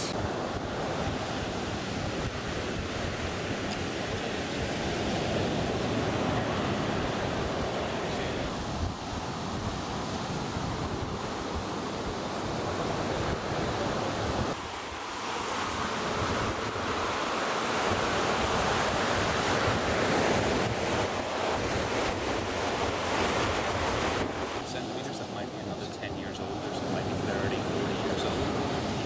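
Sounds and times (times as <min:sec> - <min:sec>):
surf washing onto beach: 0:00.0 - 0:29.0
wind on microphone: 0:00.0 - 0:29.0.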